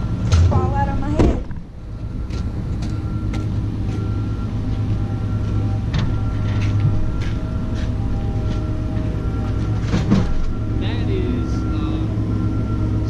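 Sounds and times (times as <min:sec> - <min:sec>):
faint steady tones: 0:00.0 - 0:13.0
vehicle running drone: 0:00.0 - 0:13.0.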